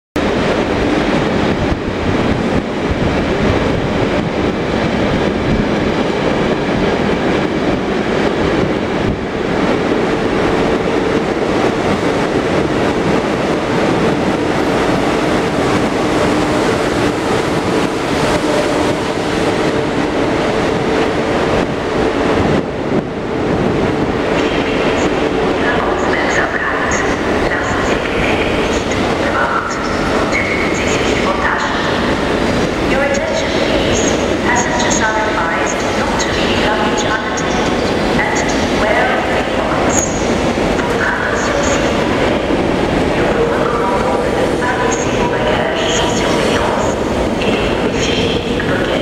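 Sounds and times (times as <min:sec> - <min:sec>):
train wheels rumbling on rails: 0:00.2 - 0:49.0.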